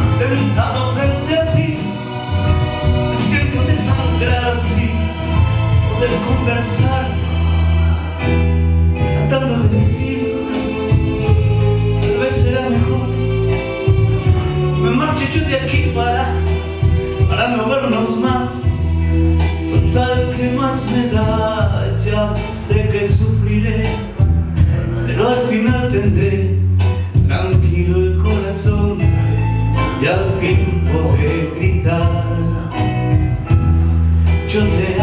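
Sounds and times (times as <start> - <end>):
instrumental ballad backing track: 0.0 - 35.0.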